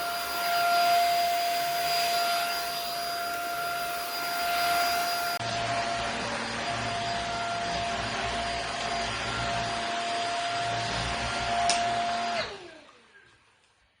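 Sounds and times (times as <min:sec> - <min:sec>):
stick vacuum whining: 0:00.0 - 0:13.3.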